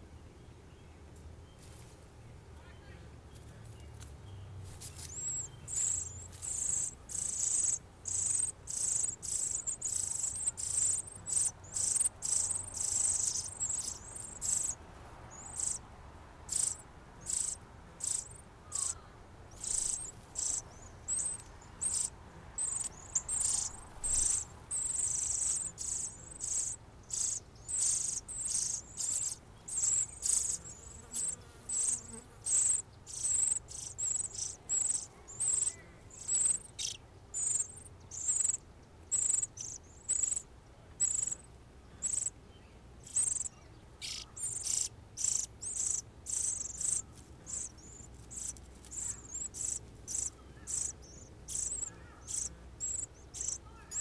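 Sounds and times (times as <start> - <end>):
insect chirping: 4.9 - 15.8, 16.5 - 42.4, 43.0 - 54.0.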